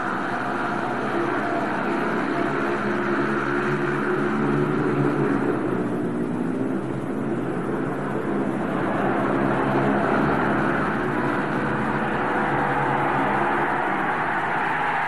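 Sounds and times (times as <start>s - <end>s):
motorcycles racing: 0.0s - 15.0s.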